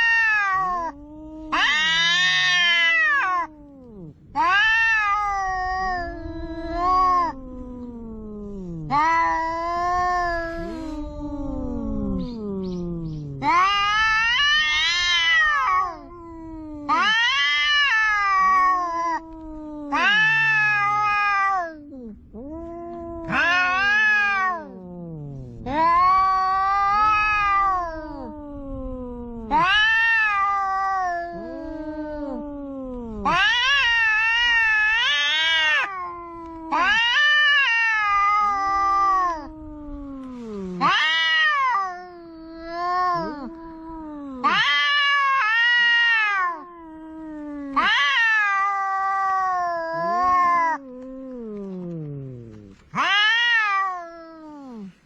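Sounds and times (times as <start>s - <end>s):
cats yowling: 0.0s - 55.0s.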